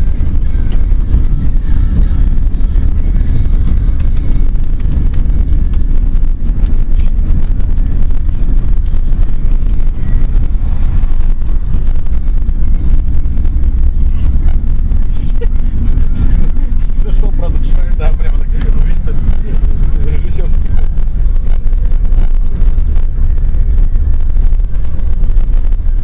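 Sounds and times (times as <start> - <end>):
road and engine rumble in van: 0.0 - 26.0
wind buffeting on microphone: 0.0 - 26.0.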